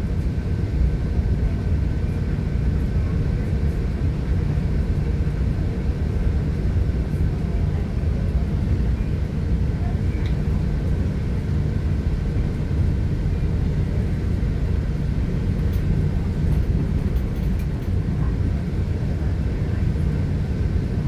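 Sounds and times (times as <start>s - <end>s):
train rumble inside car: 0.0s - 21.0s.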